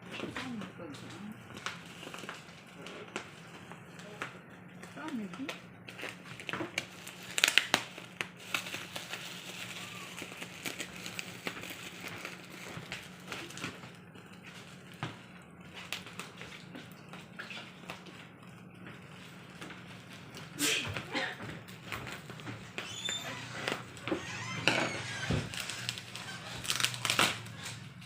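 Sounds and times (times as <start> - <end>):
packaging crinkling and rustling: 0.1 - 20.6, 21.4 - 28.0.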